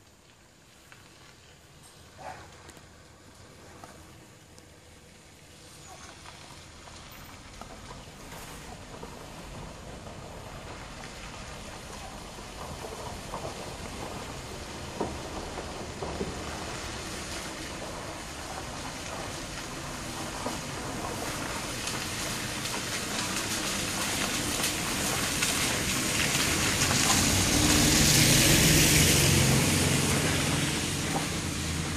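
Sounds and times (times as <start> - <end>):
tyres sloshing through puddles: 0.1 - 31.9
vehicle engine running: 2.0 - 31.9.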